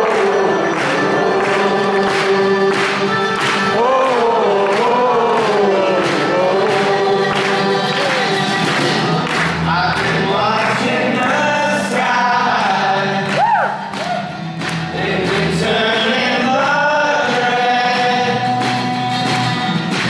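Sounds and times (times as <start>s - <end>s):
accordion: 0.0s - 13.4s, 14.2s - 20.0s
voices singing in harmony: 0.0s - 13.8s, 14.8s - 18.7s
acoustic guitar: 0.0s - 20.0s.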